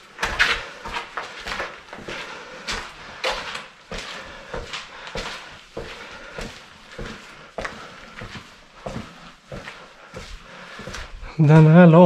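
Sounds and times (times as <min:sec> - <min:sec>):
footsteps on gritty concrete: 0:00.0 - 0:12.0.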